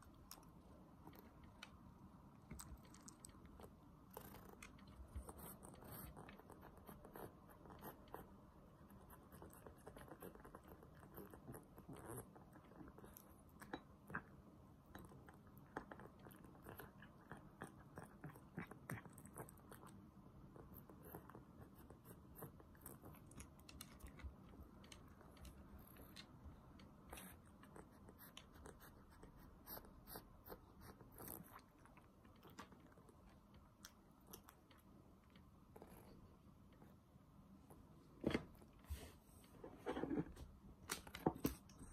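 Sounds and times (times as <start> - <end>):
cat chewing food: 0.0 - 37.8.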